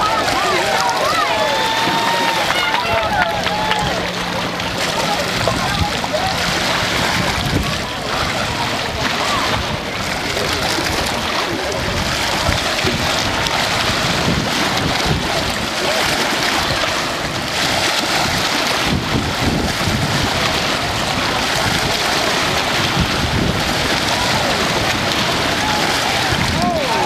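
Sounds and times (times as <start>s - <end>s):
choppy water and waves: 0.0s - 27.0s
wind buffeting microphone: 0.0s - 27.0s.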